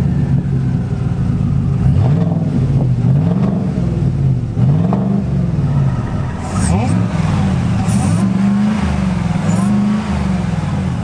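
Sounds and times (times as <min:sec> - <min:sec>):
truck engine exhaust rumble: 0:00.0 - 0:11.0.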